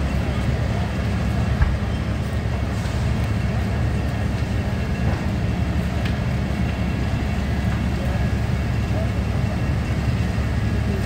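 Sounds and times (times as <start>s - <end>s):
fire truck engines rumbling: 0.0s - 11.0s.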